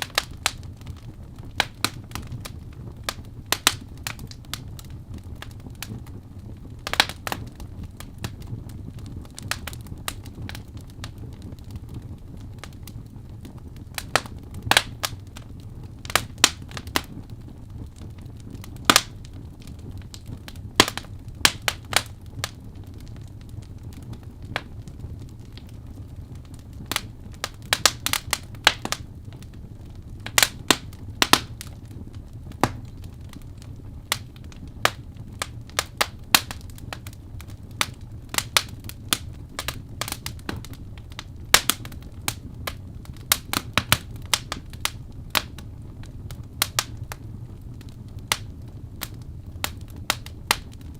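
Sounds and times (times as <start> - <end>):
low rumble of flames: 0.0 - 50.9
wood fire pops and snaps: 0.0 - 50.9.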